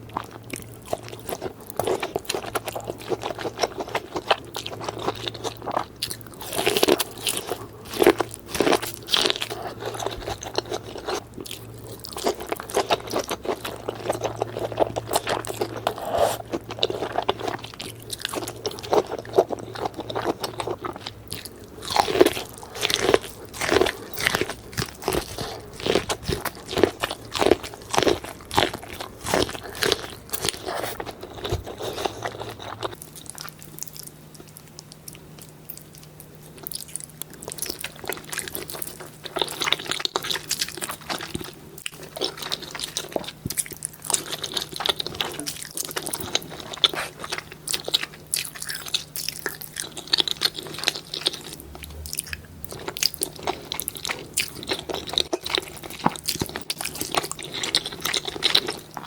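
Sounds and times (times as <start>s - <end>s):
crunchy chewing: 0.0s - 59.0s
faint steady hum: 0.0s - 59.0s.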